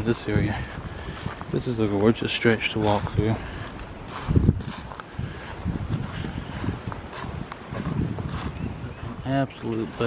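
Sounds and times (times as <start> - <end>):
footsteps on a woodland trail: 0.0 - 10.0.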